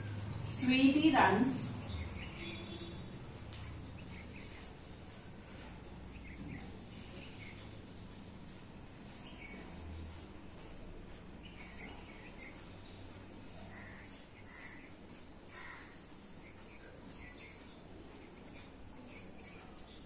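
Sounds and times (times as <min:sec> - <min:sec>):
low hum and hiss: 0:00.0 - 0:20.0.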